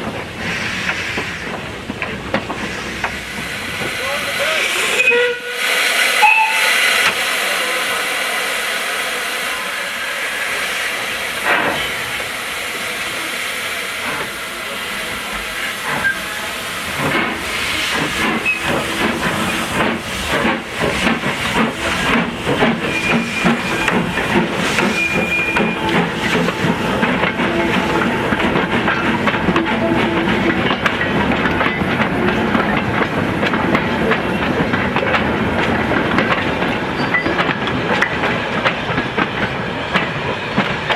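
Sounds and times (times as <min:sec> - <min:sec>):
steam locomotive hissing: 0:00.0 - 0:40.9.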